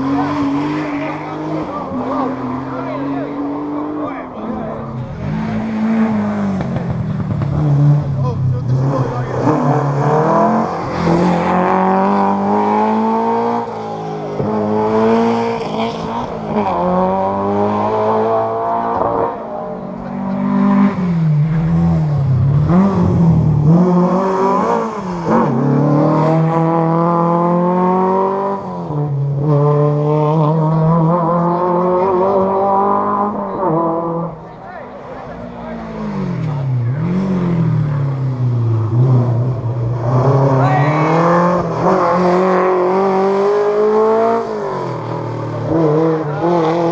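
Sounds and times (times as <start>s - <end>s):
rally car engine at full throttle: 0.0s - 46.9s.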